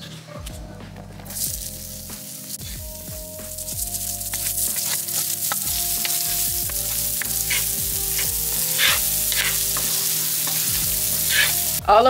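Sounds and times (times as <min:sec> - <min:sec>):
onion sizzling in oil: 0:01.4 - 0:11.8.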